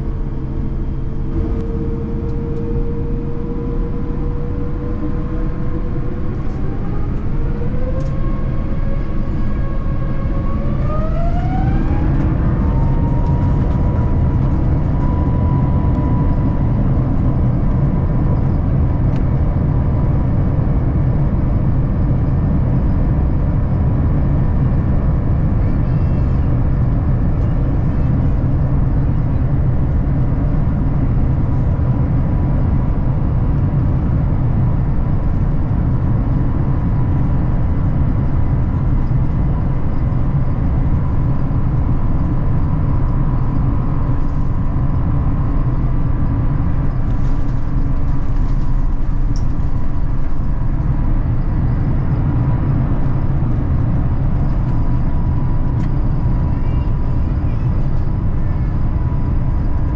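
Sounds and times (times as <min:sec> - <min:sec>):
jet engine cabin rumble: 0:00.0 - 0:59.9
jet engine whine: 0:00.0 - 0:59.9.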